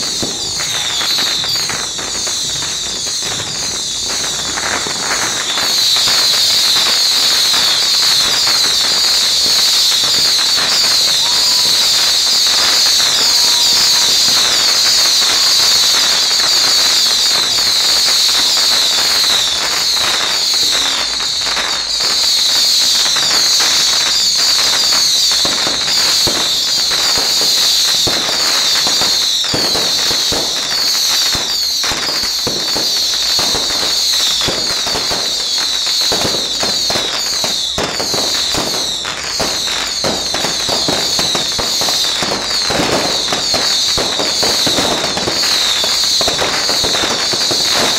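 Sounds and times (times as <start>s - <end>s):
fireworks crackles and bangs: 0.0s - 47.9s.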